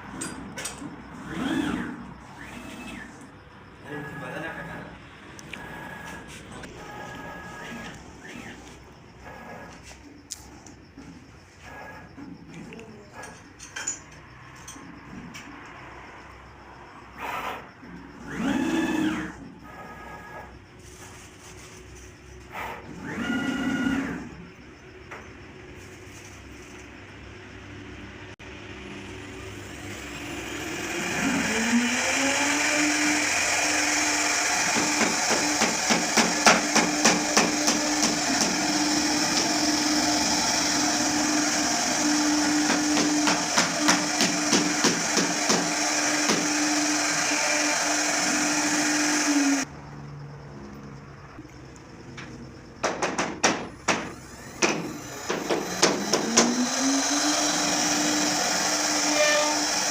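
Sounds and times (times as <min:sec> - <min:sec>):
machine spindle whine: 0:00.0 - 0:52.4, 0:54.0 - 0:59.9.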